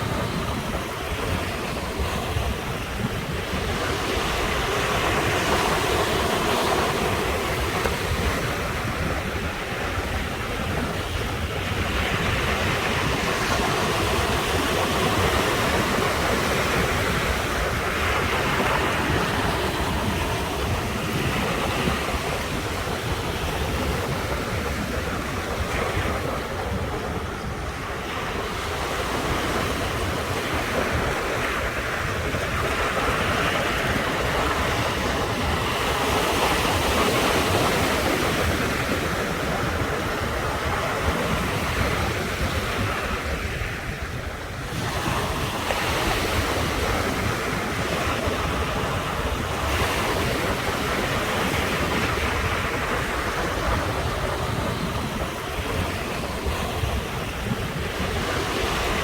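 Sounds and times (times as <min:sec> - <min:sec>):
ocean surf washing ashore: 0:00.0 - 0:59.0
wind buffeting microphone: 0:00.0 - 0:59.0.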